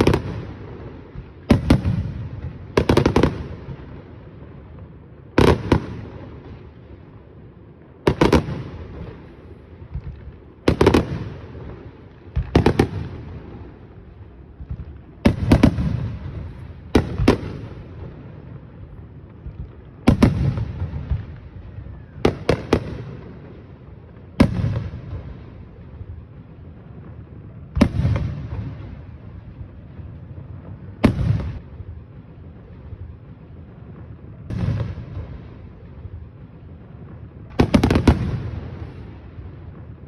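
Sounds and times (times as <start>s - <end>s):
fireworks bursting with loud bangs: 0.0s - 40.0s.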